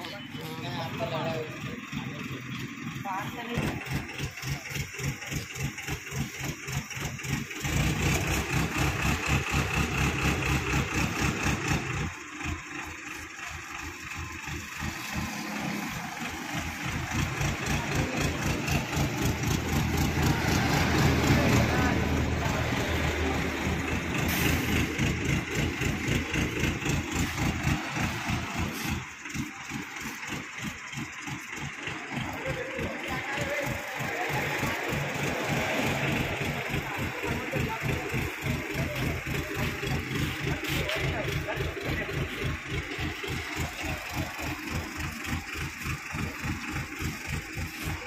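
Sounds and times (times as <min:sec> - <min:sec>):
crane diesel engine throbbing: 0:00.0 - 0:48.0.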